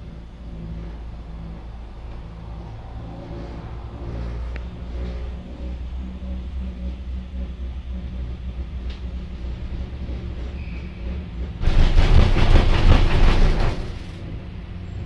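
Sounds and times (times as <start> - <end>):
cable car rumble and hum: 0.0 - 15.0.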